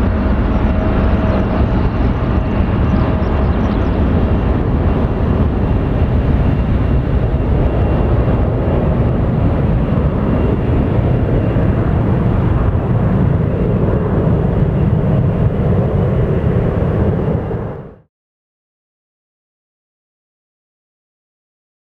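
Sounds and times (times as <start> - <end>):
jet engines rumbling: 0.0 - 18.1.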